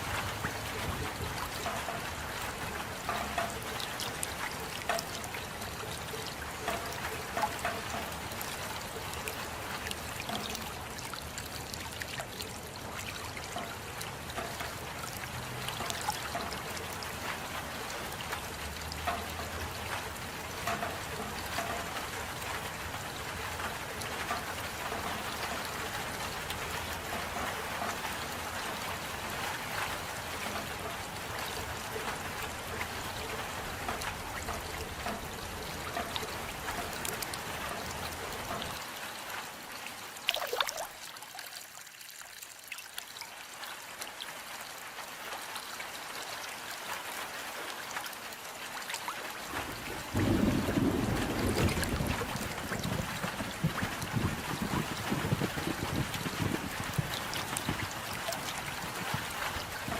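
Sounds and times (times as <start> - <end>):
steady rain: 0.0 - 59.9
water dripping and trickling: 0.0 - 59.9.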